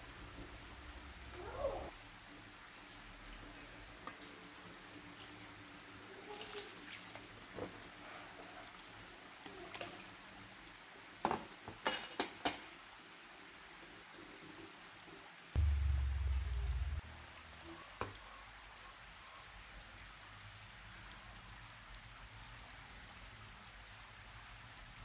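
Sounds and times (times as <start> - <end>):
water splashes and drips: 0.0 - 25.0.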